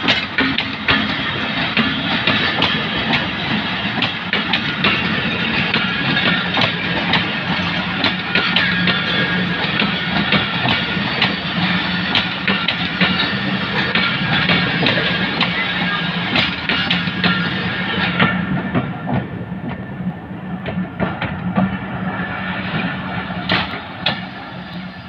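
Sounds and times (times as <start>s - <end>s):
train wheels clattering over rail joints: 0.0s - 19.9s, 20.5s - 25.0s.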